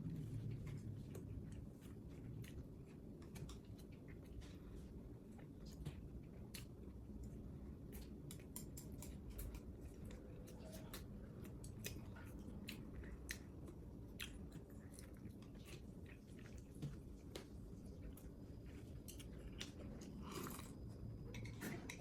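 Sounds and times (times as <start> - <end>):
low background hum: 0.0 - 22.0
person chewing food: 0.1 - 22.0.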